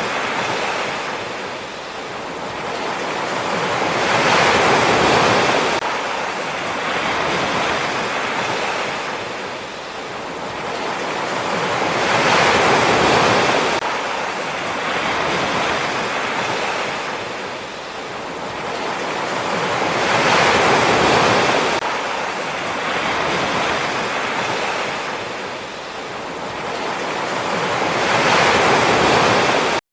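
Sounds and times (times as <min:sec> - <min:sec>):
sea waves washing ashore: 0:00.0 - 0:29.8.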